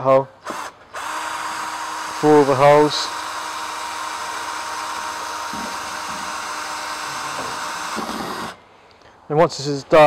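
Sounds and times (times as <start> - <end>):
drill drilling through metal panel: 0.4 - 8.6.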